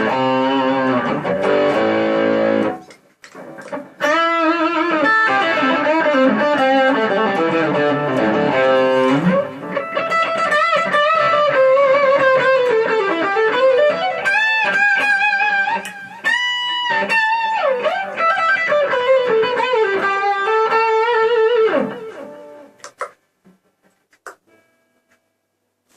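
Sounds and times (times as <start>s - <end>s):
electric guitar solo: 0.0s - 22.8s.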